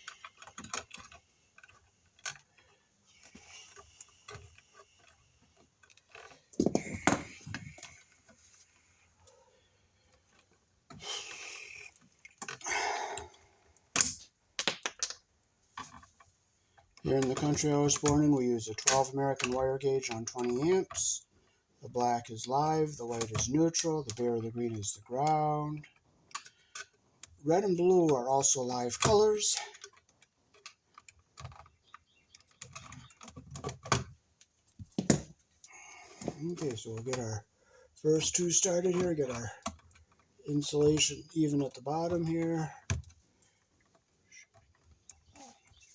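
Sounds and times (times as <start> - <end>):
electrical wires rustling and scraping: 0.0 - 12.6, 15.0 - 45.9.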